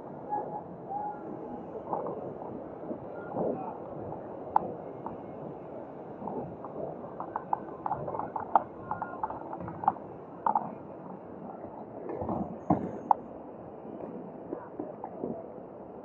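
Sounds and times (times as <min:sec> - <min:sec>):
city street noise: 0:00.0 - 0:16.0.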